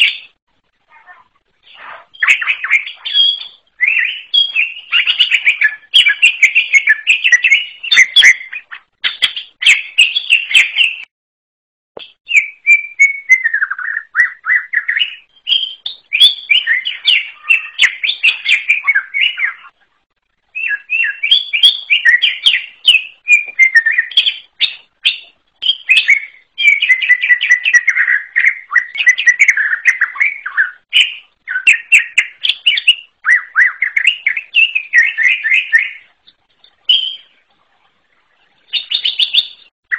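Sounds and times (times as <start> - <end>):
bird singing chirps and whistles: 0.0 - 0.4, 1.0 - 11.1, 12.0 - 19.8, 20.5 - 37.4, 38.6 - 39.9.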